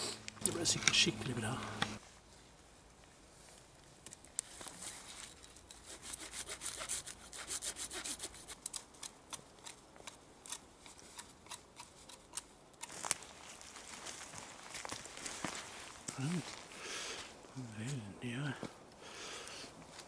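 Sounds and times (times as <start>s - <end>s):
twigs and branches rustling: 0.0s - 20.0s.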